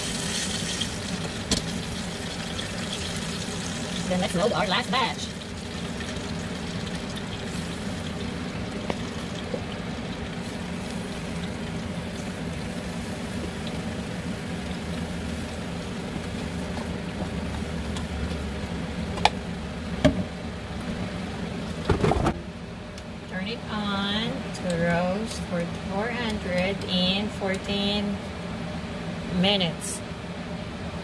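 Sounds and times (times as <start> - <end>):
air fryer hiss and hum: 0.0 - 31.0.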